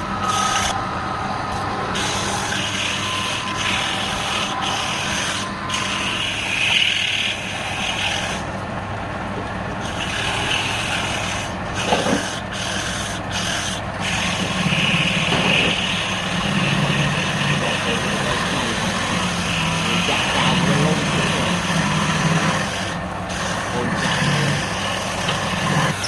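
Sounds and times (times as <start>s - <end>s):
tool scraping spinning wood: 0.0s - 0.8s, 1.9s - 8.6s, 9.6s - 26.0s
lathe motor hum: 0.0s - 26.0s.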